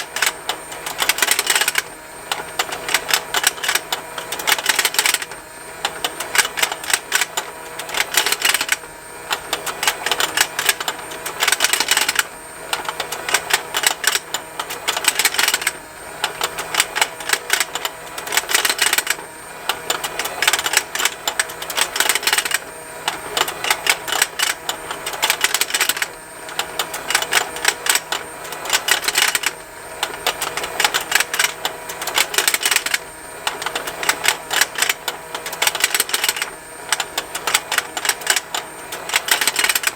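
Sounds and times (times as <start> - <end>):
plastic toy ticking and snapping: 0.0 - 19.2, 19.8 - 39.9.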